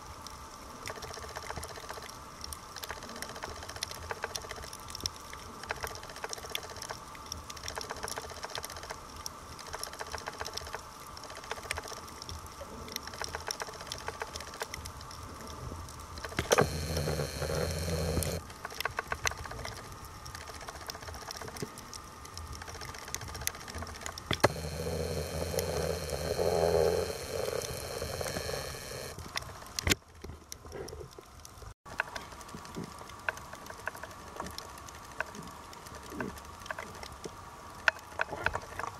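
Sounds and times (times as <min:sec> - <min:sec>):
underwater crackle of clicks: 0:00.2 - 0:30.6, 0:31.3 - 0:38.9.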